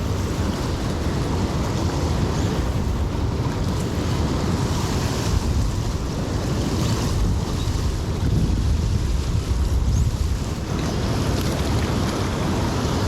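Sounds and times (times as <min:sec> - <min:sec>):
river water flowing: 0:00.0 - 0:13.0
wind rumbling on microphone: 0:00.0 - 0:13.0.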